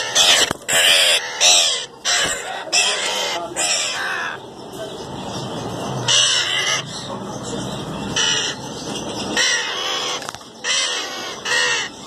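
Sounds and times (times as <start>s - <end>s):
parakeets screeching: 0.0s - 12.0s.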